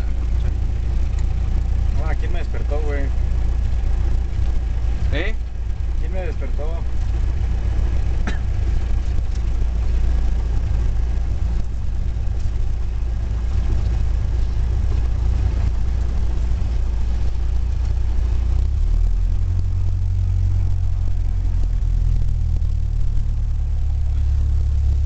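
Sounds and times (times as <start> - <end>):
propeller plane engine droning: 0.0 - 25.0.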